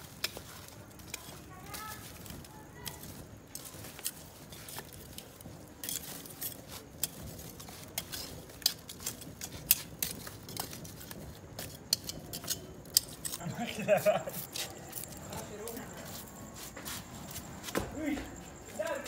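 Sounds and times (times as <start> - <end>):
faint low rumble of fire: 0.0 - 19.0
tongs clinking against coals: 0.0 - 19.0.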